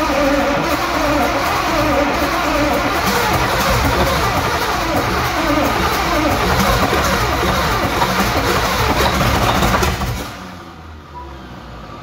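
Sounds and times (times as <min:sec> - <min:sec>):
diesel truck engine cranking: 0:00.0 - 0:11.0.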